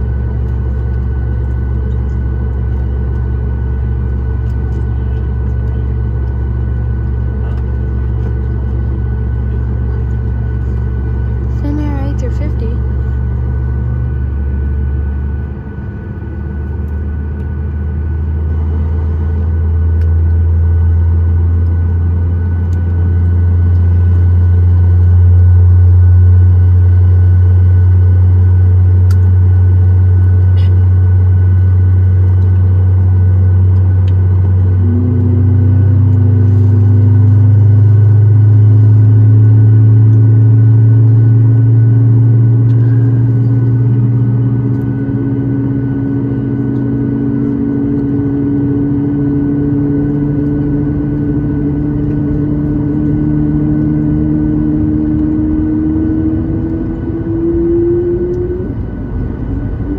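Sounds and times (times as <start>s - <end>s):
faint engine whine: 0.0s - 59.9s
jet engines rumbling in cabin: 0.0s - 59.9s.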